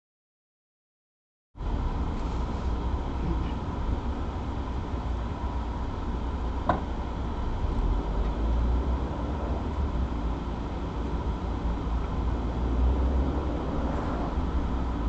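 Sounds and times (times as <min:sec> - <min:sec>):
car driving slowly rumble: 0:01.6 - 0:15.0.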